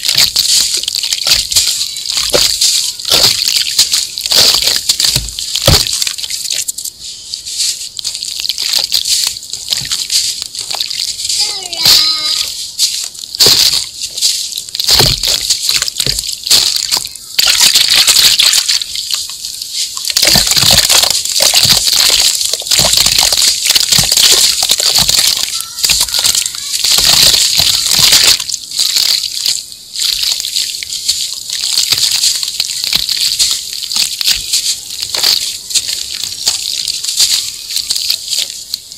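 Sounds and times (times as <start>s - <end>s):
hands crunching wet sand: 0.0s - 38.9s
small crackles: 0.0s - 38.9s.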